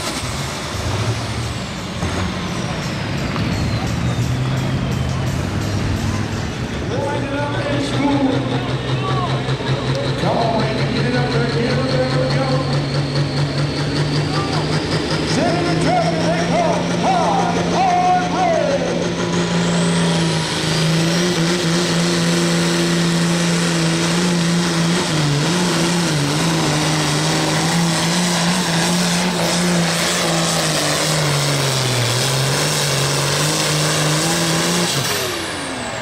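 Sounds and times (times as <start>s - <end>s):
high turbo whine: 0.0s - 36.0s
tractor diesel engine under load: 0.0s - 36.0s.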